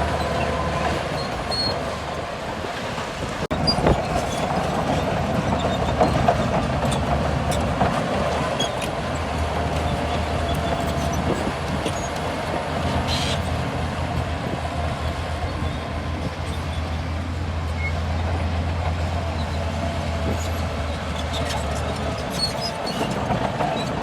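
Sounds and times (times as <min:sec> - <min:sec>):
diesel bulldozer engine hum: 0:00.0 - 0:24.0.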